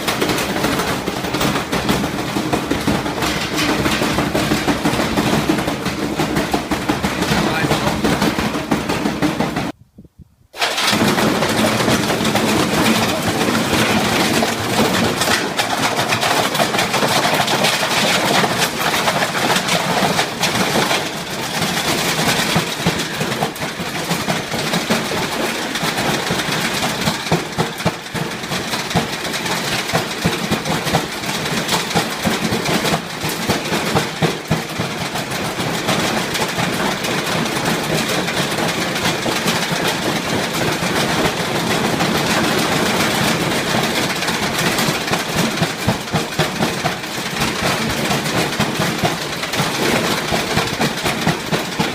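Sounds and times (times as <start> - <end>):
washing machine clattering: 0.0 - 9.8, 10.6 - 51.9.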